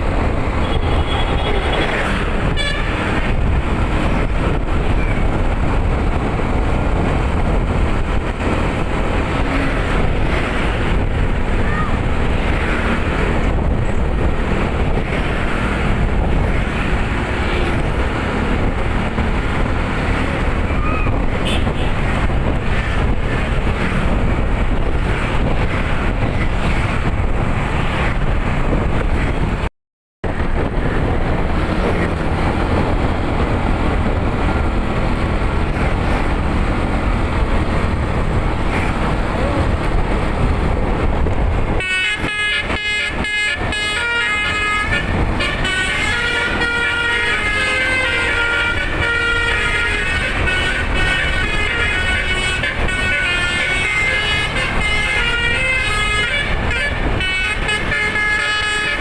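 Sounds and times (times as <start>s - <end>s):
bus engine and road rumble: 0.0s - 59.0s
wind buffeting microphone: 0.0s - 59.0s.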